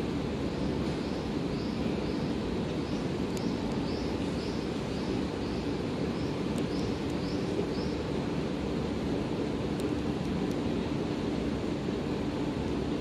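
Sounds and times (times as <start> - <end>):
railway station rumble: 0.0 - 13.0.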